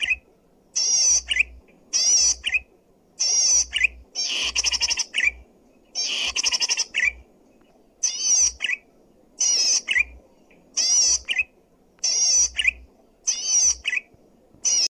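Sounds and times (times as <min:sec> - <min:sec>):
small bird singing high notes: 0:00.0 - 0:05.4, 0:06.0 - 0:07.2, 0:08.0 - 0:08.8, 0:09.4 - 0:10.2, 0:10.8 - 0:14.9.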